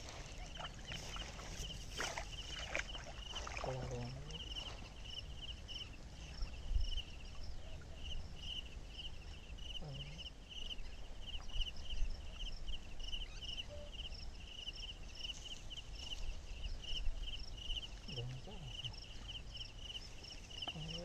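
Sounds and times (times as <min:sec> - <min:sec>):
insect chirping in trills: 0:00.0 - 0:21.0.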